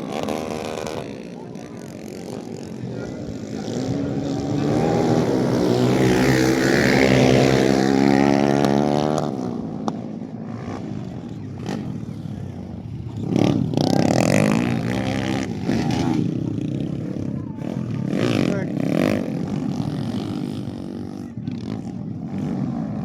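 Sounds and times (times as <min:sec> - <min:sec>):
motorbikes racing past revving: 0:00.0 - 0:23.0.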